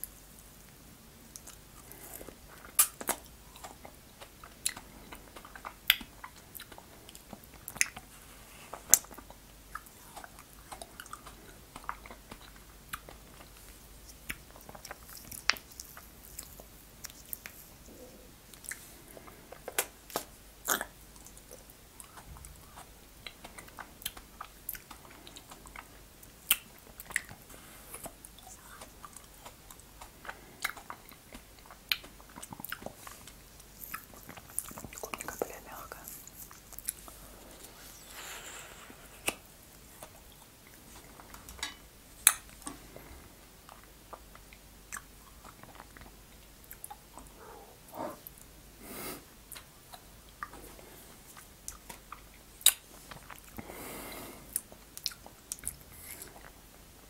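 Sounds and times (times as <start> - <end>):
chewing: 0.6 - 48.5, 49.5 - 56.6.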